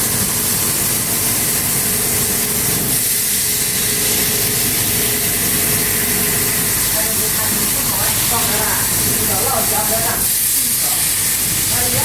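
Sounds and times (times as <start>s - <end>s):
laser cutter hissing: 0.0s - 12.0s.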